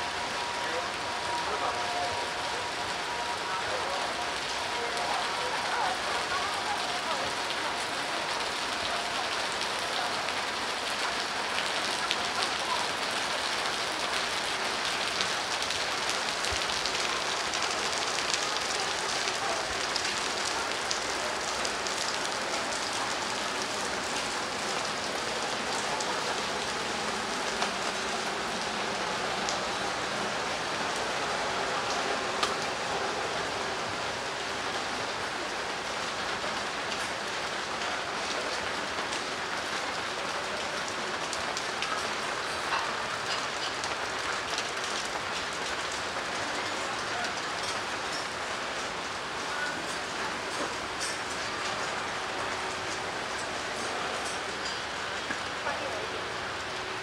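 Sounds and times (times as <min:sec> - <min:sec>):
rain spattering on surfaces: 0:00.0 - 0:57.0.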